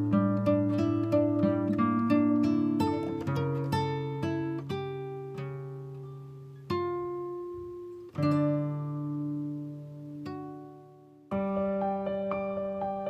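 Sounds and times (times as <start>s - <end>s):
plucked acoustic guitar: 0.0s - 11.8s.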